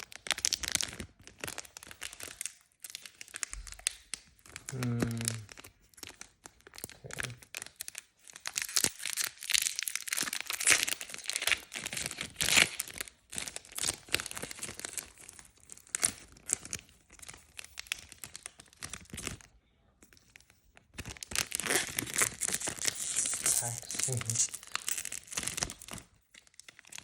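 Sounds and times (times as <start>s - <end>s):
card wrappers crinkling and tearing: 0.0s - 27.0s.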